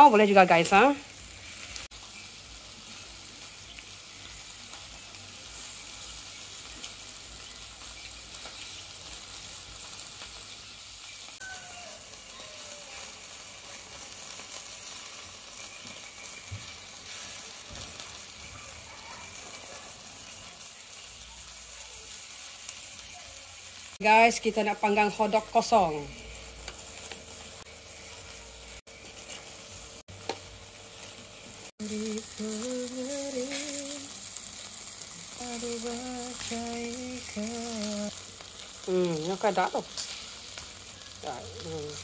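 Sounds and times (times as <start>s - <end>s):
food sizzling on charcoal grill: 0.0s - 42.0s.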